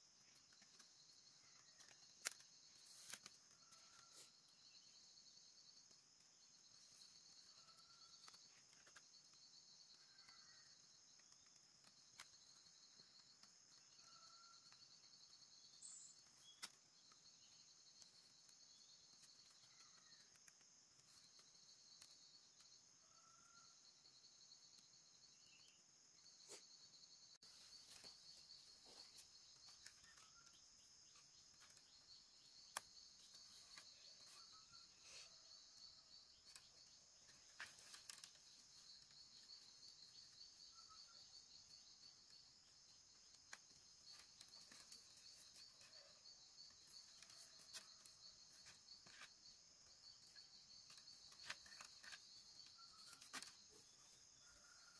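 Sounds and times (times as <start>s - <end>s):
insects chirring in trills: 0.0s - 54.9s.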